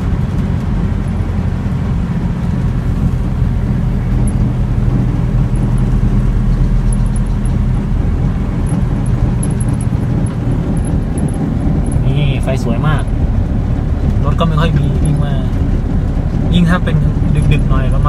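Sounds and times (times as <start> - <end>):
car engine and tyre hum: 0.0 - 18.0.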